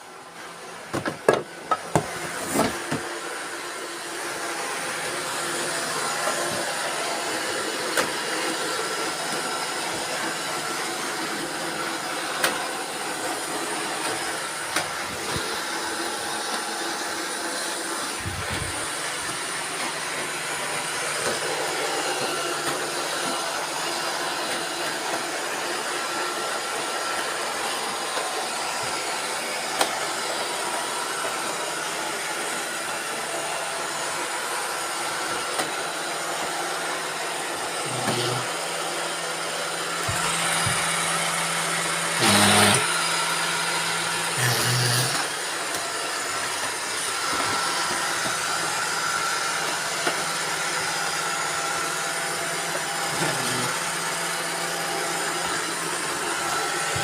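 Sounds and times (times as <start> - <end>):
robot vacuum cleaners whirring: 0.0 - 57.0.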